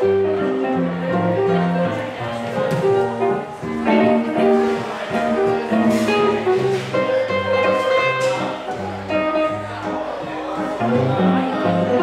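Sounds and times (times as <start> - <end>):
electric guitar playing blues: 0.0 - 12.0
held bass notes: 0.0 - 12.0
keyboard: 0.0 - 12.0.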